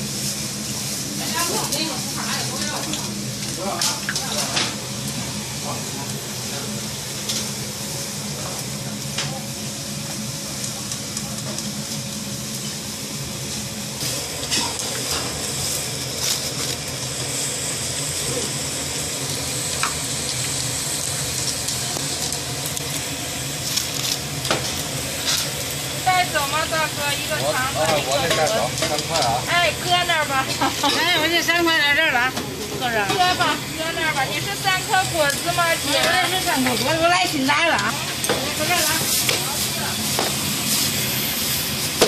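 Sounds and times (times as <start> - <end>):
dough sizzling in hot oil: 0.0 - 42.0.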